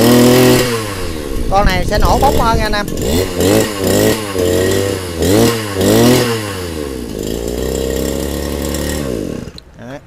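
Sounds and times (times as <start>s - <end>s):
small petrol engine revving: 0.0s - 9.7s.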